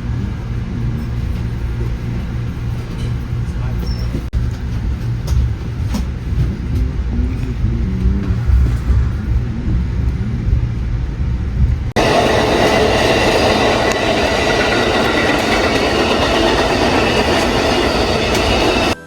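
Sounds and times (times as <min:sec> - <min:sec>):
passenger train rail noise: 0:00.0 - 0:19.0.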